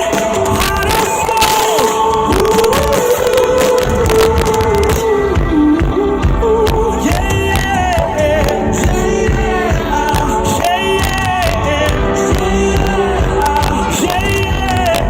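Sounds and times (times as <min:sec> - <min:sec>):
drums: 0:00.0 - 0:15.0
live pop-rock band: 0:00.0 - 0:15.0
person singing: 0:00.0 - 0:15.0.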